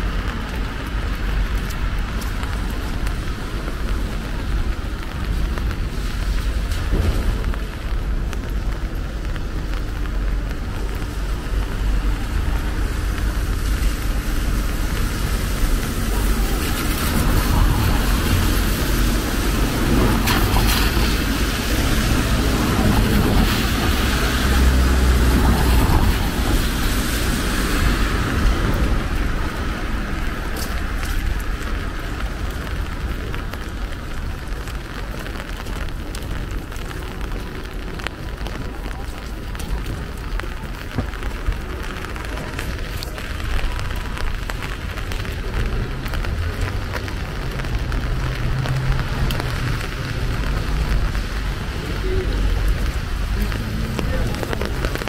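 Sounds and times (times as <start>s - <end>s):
passing road traffic rumble: 0.0s - 55.0s
rain drop ticks: 0.0s - 55.0s
rain pattering: 0.0s - 55.0s.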